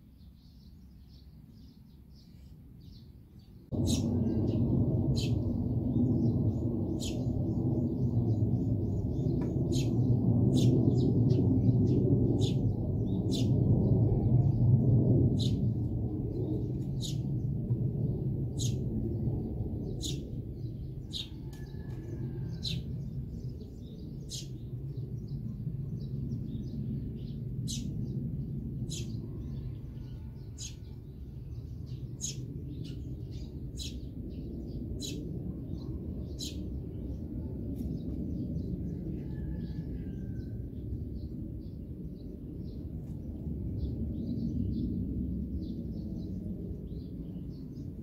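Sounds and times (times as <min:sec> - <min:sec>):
sparrows chirping: 0:00.0 - 0:48.0
steady low rumble: 0:00.0 - 0:48.0.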